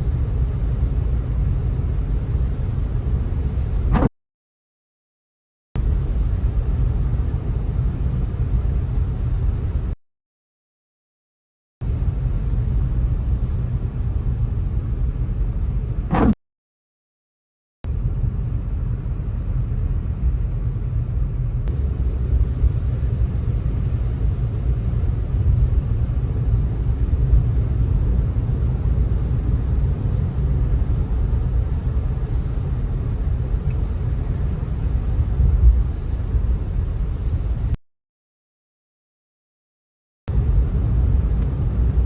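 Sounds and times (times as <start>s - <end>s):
low road rumble: 0.0s - 4.1s, 5.8s - 10.0s, 11.8s - 16.4s, 17.8s - 37.8s, 40.3s - 42.0s.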